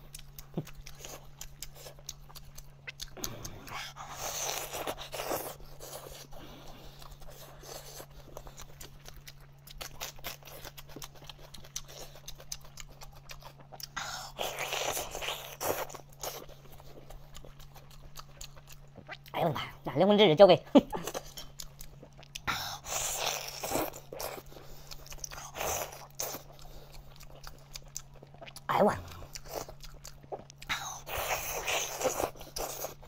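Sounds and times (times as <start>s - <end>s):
chewing mouth clicks and smacks: 0.0s - 6.4s, 7.0s - 14.1s, 14.7s - 19.4s, 21.1s - 33.0s
steady low hum: 0.0s - 33.0s.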